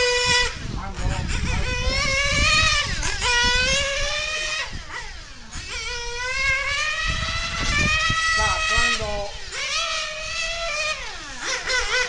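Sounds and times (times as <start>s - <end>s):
model car engine revving: 0.0s - 12.0s.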